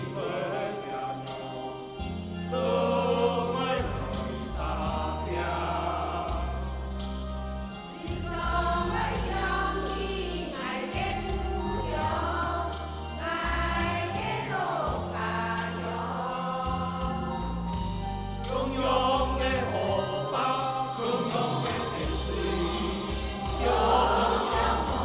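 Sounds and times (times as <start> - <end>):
choir singing held notes: 0.0 - 25.0.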